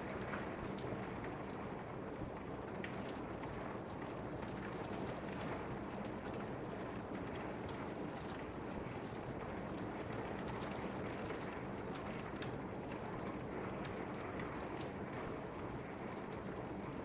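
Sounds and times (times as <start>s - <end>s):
raindrops ticking: 0.0s - 17.0s
torrential rain hiss: 0.0s - 17.0s.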